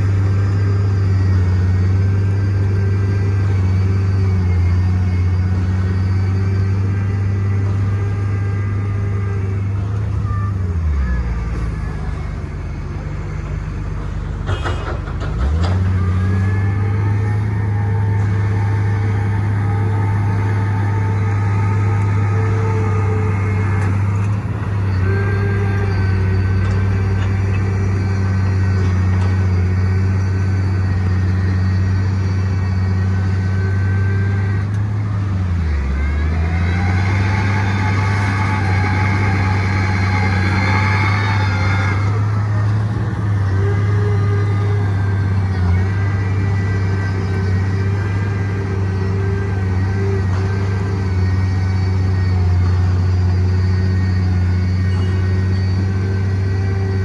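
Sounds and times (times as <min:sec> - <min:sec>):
diesel engine under load: 0:00.0 - 0:57.0
high machine whine: 0:00.0 - 0:57.0.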